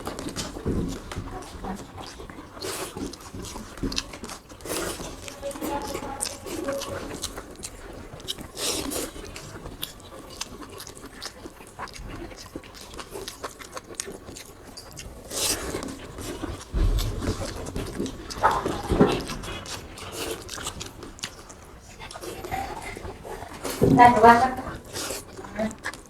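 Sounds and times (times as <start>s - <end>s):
people chewing: 0.0s - 26.0s.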